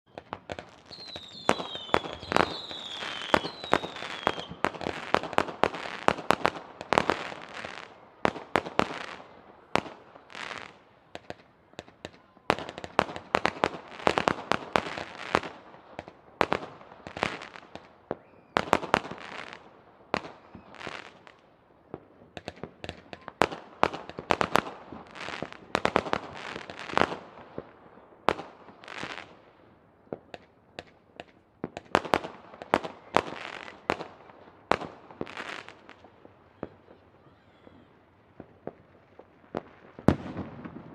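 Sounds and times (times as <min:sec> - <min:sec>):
fireworks banging and crackling: 0:00.1 - 0:40.9
whistling fireworks: 0:00.1 - 0:40.9.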